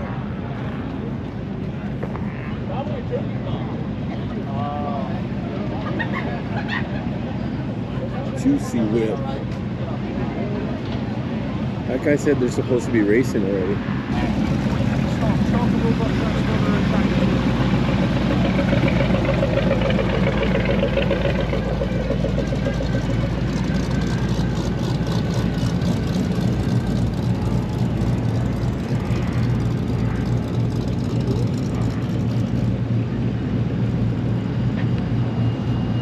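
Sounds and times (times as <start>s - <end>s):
off-road vehicle engines idling: 2.7s - 36.0s.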